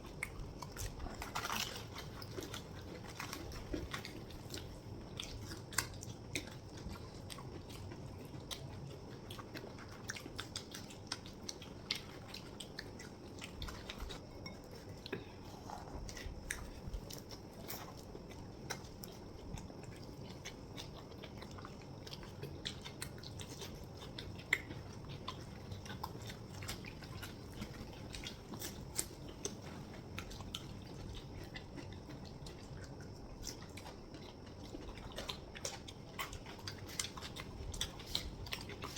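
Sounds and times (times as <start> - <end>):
people chewing food: 0.0 - 38.9.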